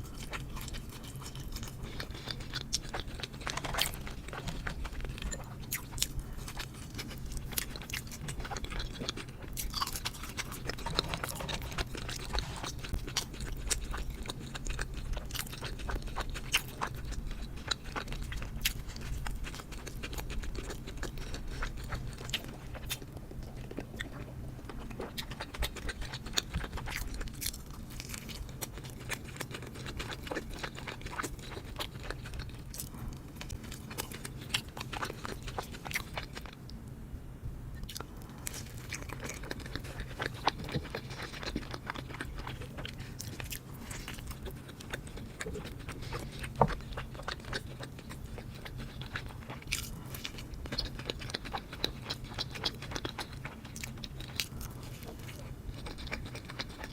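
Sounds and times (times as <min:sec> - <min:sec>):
person chewing crunchy food: 0:00.0 - 0:36.8, 0:37.8 - 0:56.9
steady low hum: 0:00.0 - 0:56.9.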